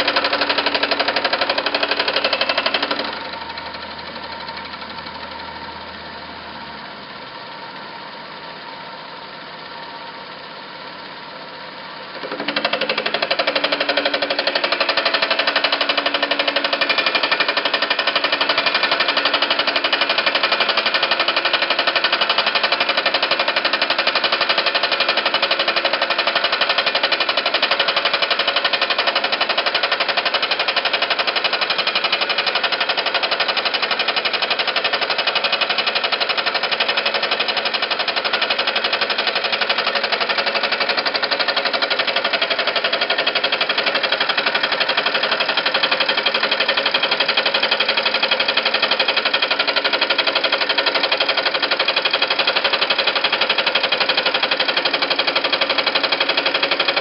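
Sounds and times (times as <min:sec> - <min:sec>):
milling cutter rattling on steel: 0:00.0 - 0:03.2, 0:12.2 - 0:57.0.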